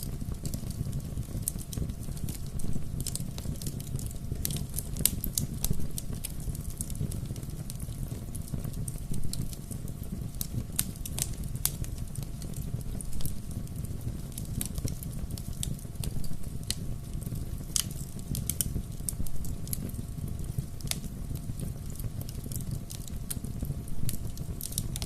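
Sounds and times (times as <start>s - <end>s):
burning wood popping and snapping: 0.0s - 25.0s
low rumble of flames: 0.0s - 25.0s.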